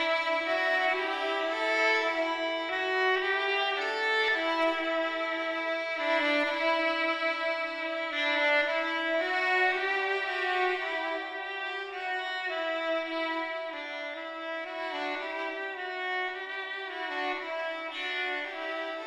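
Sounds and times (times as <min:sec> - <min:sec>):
violin playing slow notes: 0:00.0 - 0:19.0.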